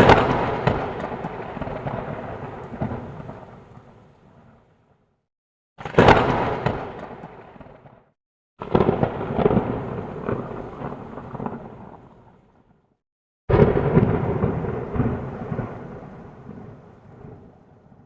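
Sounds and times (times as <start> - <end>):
rolling thunder: 0.0 - 4.5, 5.8 - 8.0, 8.6 - 12.3, 13.5 - 18.0.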